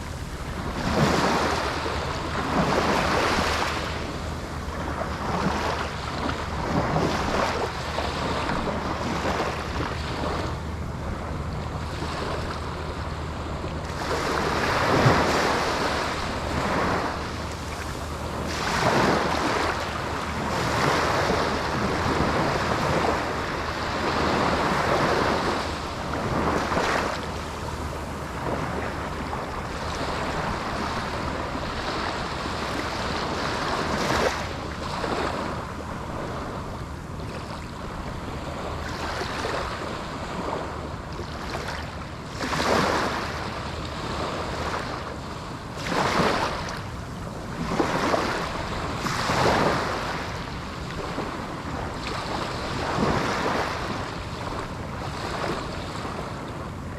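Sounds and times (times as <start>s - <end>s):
waves breaking on a beach: 0.0s - 56.9s
wind rumbling on microphone: 0.0s - 56.9s.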